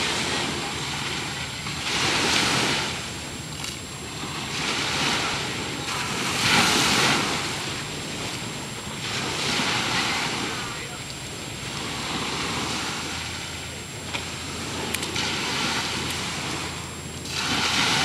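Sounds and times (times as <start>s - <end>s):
small waves breaking on beach: 0.0s - 18.0s.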